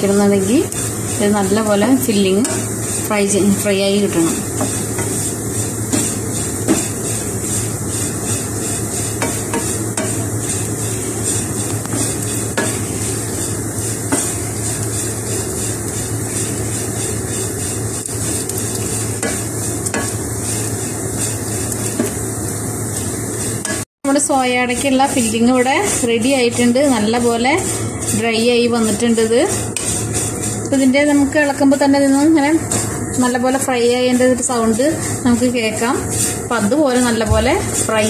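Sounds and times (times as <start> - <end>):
spatula scraping frying pan: 0.0 - 23.8, 24.8 - 38.0
food sizzling in pan: 0.0 - 38.0.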